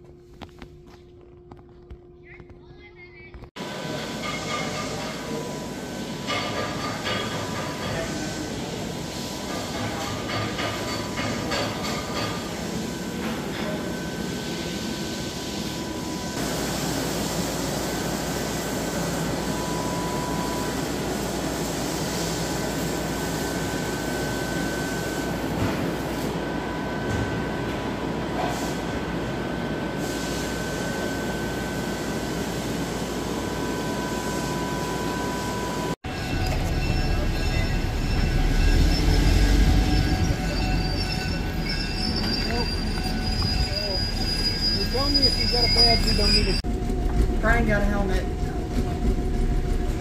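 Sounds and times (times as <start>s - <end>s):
moving train rumble and hiss: 3.5s - 50.0s.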